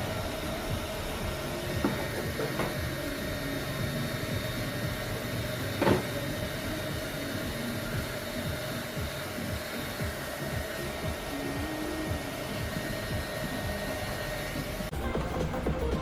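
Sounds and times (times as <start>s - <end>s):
steady hum with held tone: 0.0s - 16.0s.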